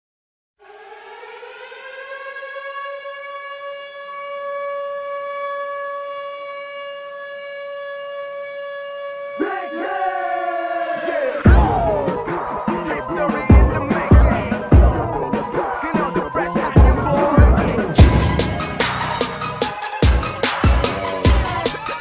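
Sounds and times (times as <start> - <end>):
siren-like tone: 0.6 - 22.0.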